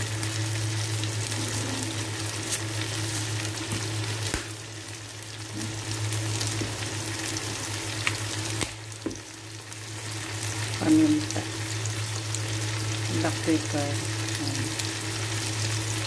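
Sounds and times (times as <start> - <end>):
shrimp sizzling in hot oil: 0.0 - 16.0.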